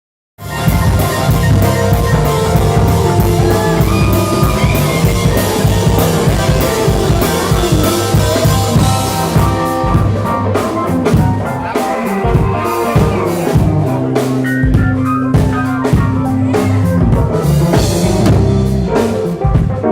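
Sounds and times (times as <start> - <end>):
drum kit beat: 0.4 - 19.9
guitar: 0.4 - 19.9
rock band playing: 0.4 - 19.9.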